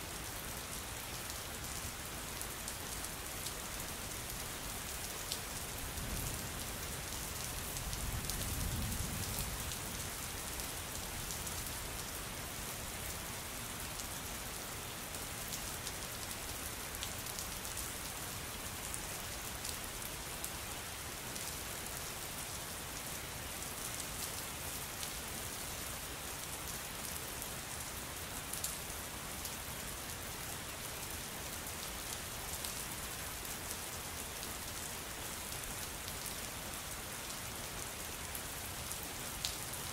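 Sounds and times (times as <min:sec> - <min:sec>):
rain-like hiss: 0:00.0 - 0:39.9.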